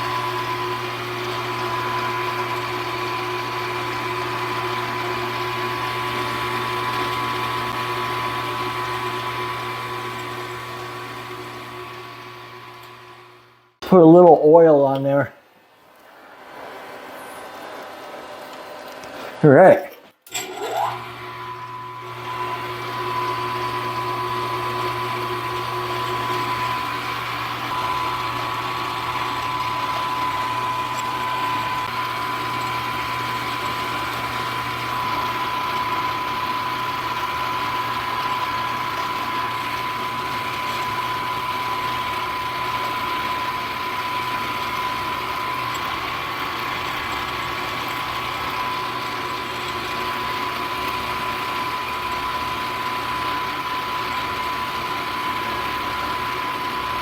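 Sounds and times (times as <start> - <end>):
milling machine cutting: 0.0 - 13.7, 20.3 - 57.0.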